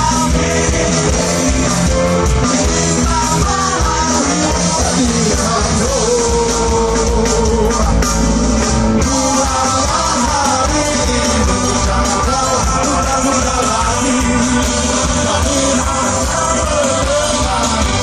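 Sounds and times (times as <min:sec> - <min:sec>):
drums: 0:00.0 - 0:18.0
electric guitars: 0:00.0 - 0:18.0
person singing: 0:00.0 - 0:18.0.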